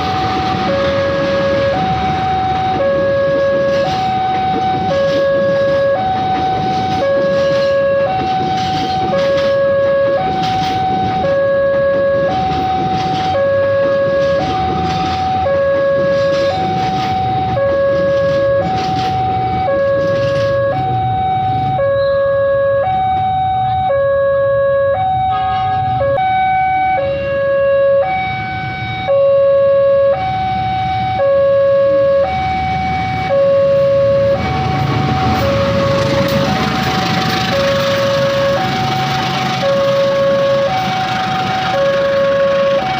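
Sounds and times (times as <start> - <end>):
two-tone crossing alarm siren: 0.0 - 42.9.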